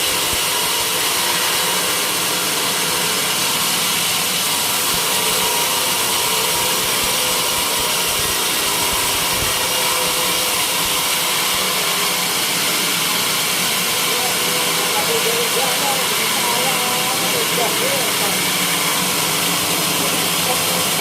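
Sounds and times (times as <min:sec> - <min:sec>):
saw blade cutting wood: 0:00.0 - 0:21.0.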